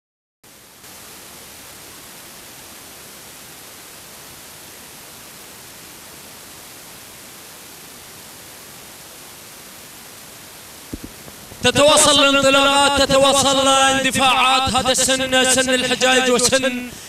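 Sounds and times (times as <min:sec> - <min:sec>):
static hiss: 0:00.5 - 0:17.0.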